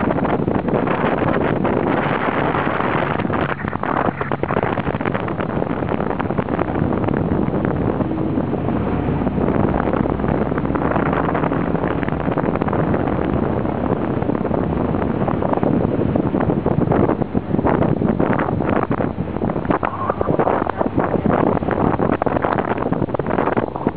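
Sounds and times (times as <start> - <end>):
boat motor running: 0.0 - 23.9
wind buffeting microphone: 0.0 - 23.9.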